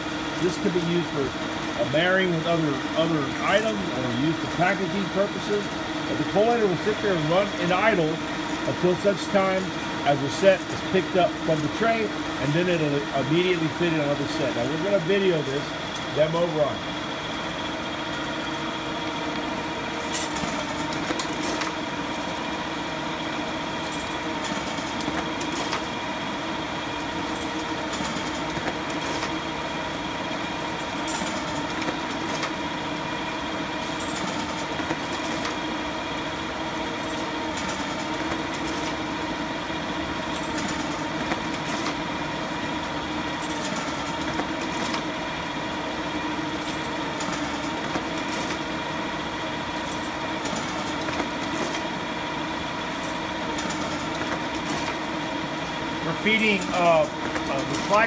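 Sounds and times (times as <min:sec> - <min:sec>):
paper collator humming and whining: 0:00.0 - 0:58.0.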